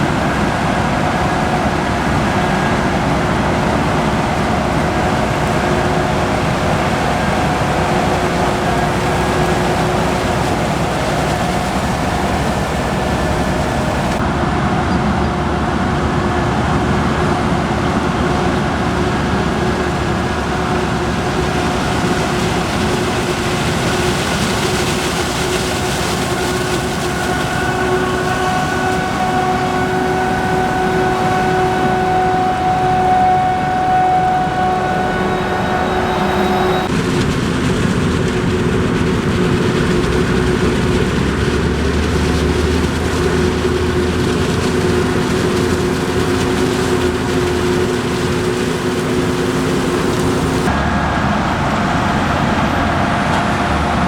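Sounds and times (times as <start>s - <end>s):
harvester engine running: 0.0s - 54.0s
machine whine: 0.0s - 54.0s.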